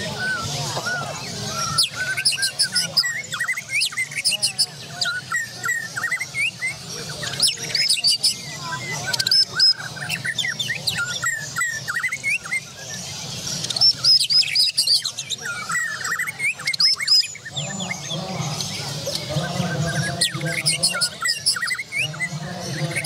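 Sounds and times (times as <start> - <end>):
birds singing whistles and chirps: 0.0 - 23.0.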